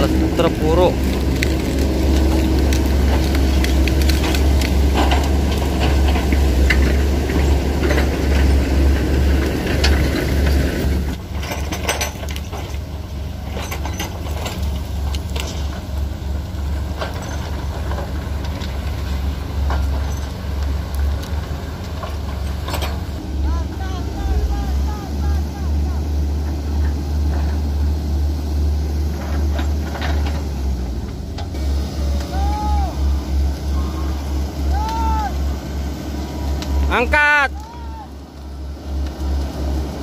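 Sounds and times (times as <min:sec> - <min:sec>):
excavator diesel engines: 0:00.0 - 0:40.0
hydraulics working: 0:00.0 - 0:40.0.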